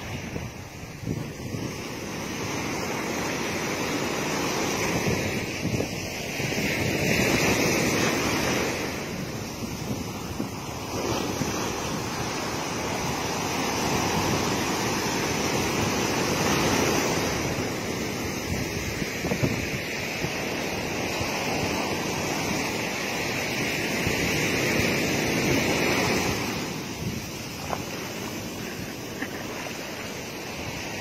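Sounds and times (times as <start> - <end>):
waves breaking on beach: 0.0 - 31.0.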